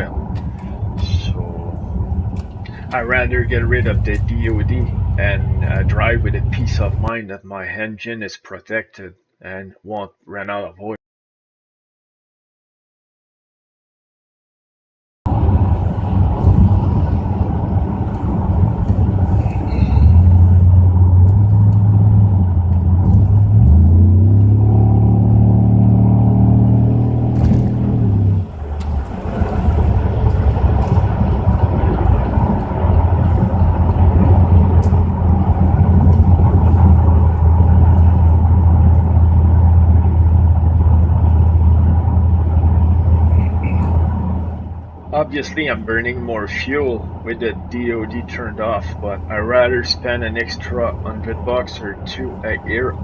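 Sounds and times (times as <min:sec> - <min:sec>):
car engine revving: 0:00.0 - 0:07.2, 0:15.3 - 0:53.0.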